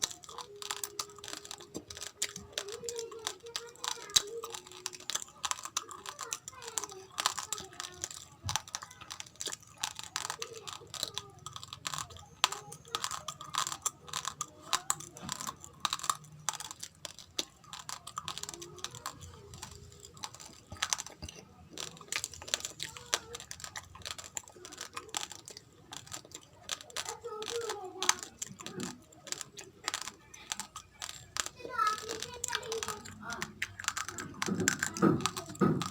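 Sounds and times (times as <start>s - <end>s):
raw rice being chewed: 0.0s - 35.9s.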